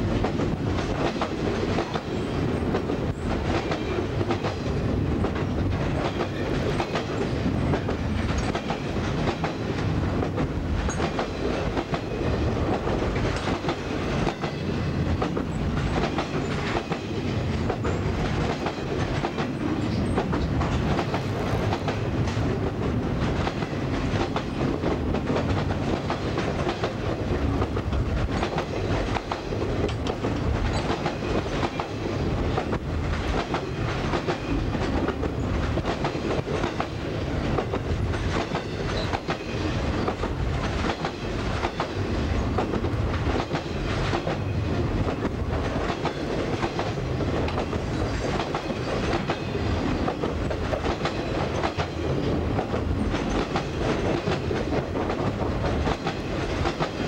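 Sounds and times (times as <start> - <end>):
freight train rolling: 0.0 - 57.0.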